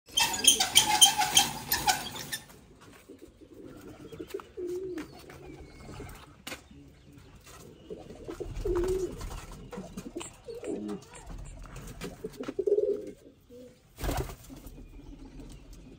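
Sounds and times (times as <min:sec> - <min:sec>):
pigeons cooing: 0:00.1 - 0:15.9.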